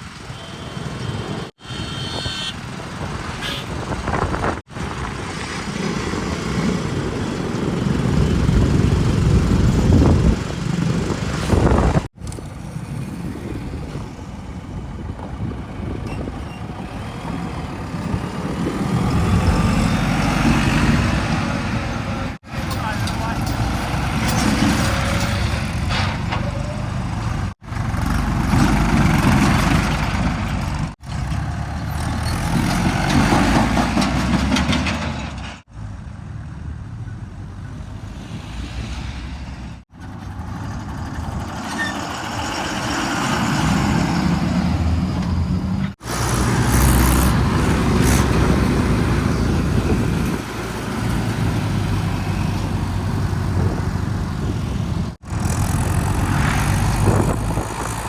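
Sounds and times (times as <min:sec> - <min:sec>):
diesel machinery rumbling: 0:02.6 - 0:58.0.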